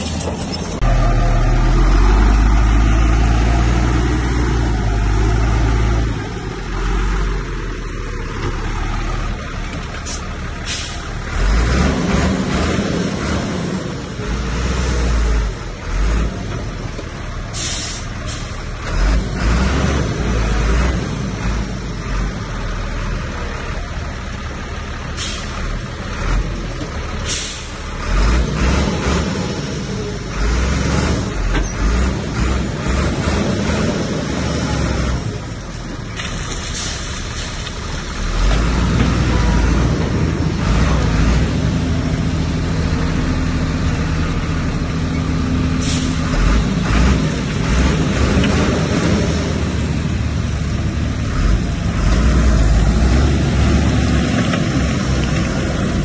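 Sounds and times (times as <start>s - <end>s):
diesel machinery engine rumbling: 0.0s - 56.0s.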